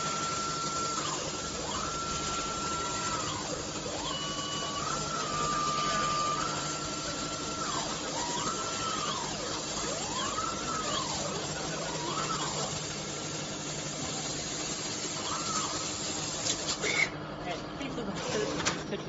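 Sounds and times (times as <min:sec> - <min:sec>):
laser cutter hissing: 0:00.0 - 0:17.2
high whine of motion drives: 0:00.0 - 0:18.1.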